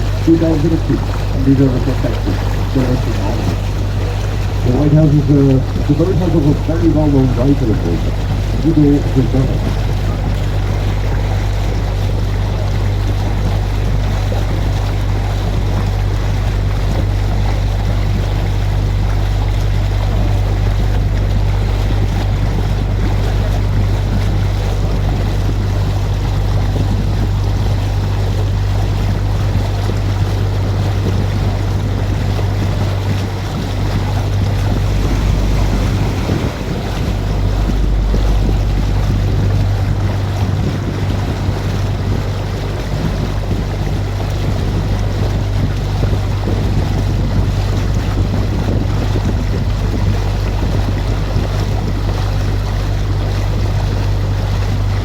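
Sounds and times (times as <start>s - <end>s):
boat motor humming: 0.0s - 55.0s
water washing: 0.0s - 55.0s
wind buffeting microphone: 0.0s - 55.0s.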